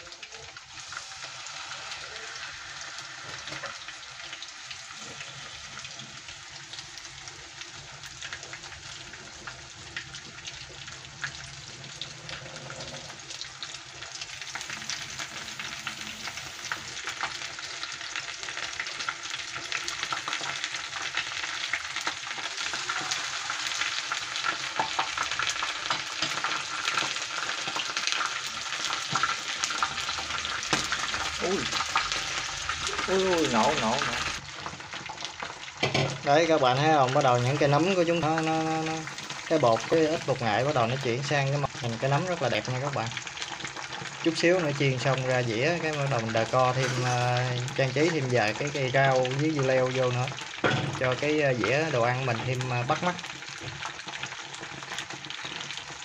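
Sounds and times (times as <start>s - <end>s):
mushrooms frying in hot oil: 0.0s - 56.0s.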